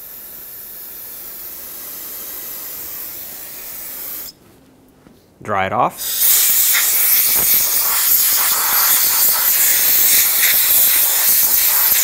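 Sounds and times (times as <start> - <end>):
air blow gun hissing: 0.0 - 4.3, 6.0 - 12.0.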